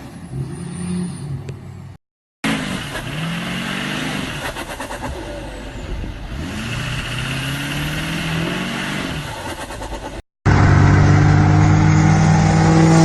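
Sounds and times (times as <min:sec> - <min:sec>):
truck engine revving: 0:02.4 - 0:13.0.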